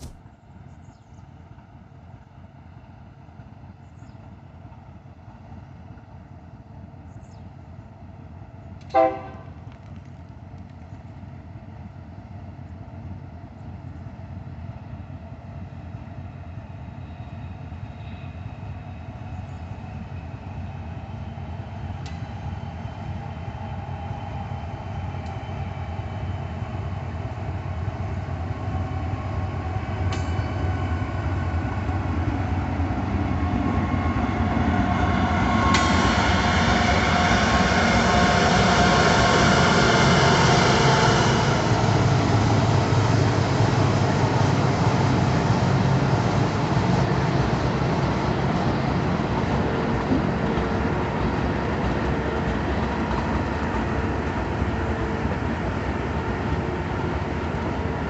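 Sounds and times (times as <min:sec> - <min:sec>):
train rumble and wheel noise: 0:00.0 - 0:58.0.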